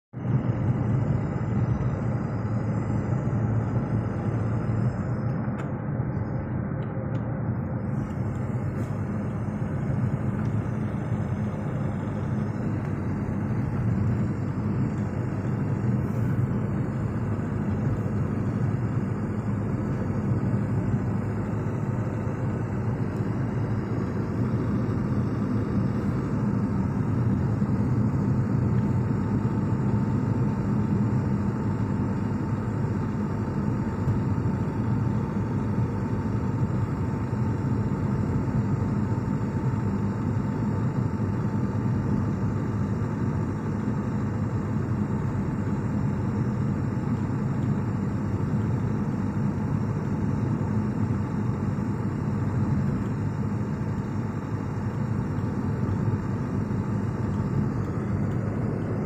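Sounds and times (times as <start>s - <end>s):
steady low rumble: 0.2s - 59.0s.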